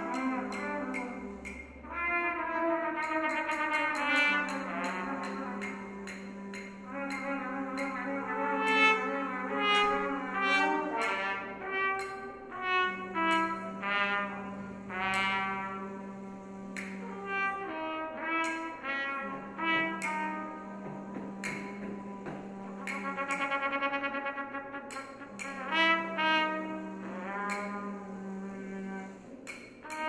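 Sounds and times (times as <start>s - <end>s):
trumpets playing short notes: 0.0s - 30.0s.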